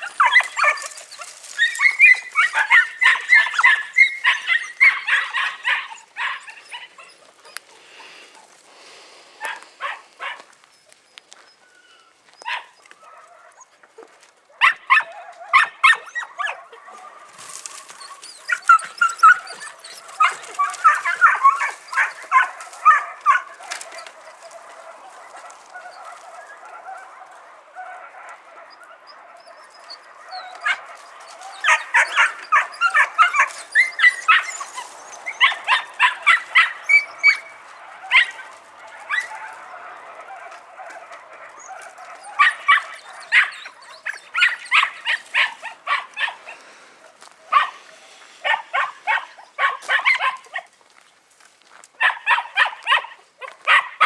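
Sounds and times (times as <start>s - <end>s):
puppies yapping: 0.0s - 50.8s, 51.7s - 54.0s.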